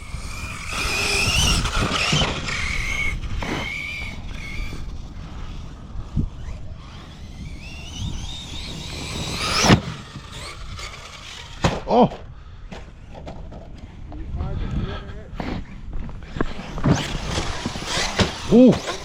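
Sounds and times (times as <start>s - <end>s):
electric motor whining: 0.0s - 12.3s, 15.6s - 19.0s.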